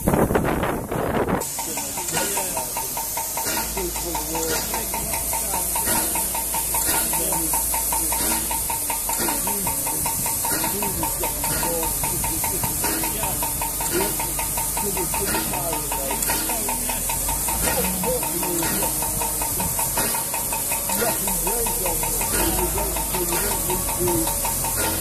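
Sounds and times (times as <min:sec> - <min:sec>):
steam hissing: 0:00.0 - 0:25.0
regular ticking: 0:01.0 - 0:25.0.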